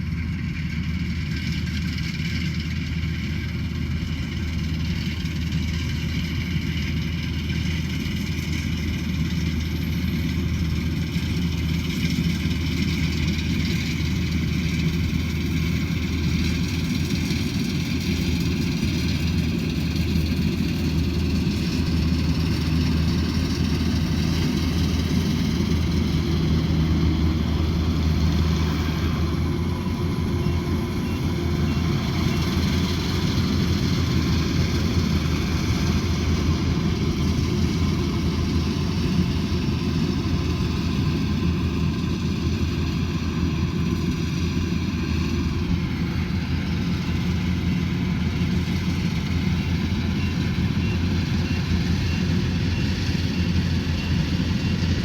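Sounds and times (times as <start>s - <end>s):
harvester diesel engine running: 0.0s - 55.0s.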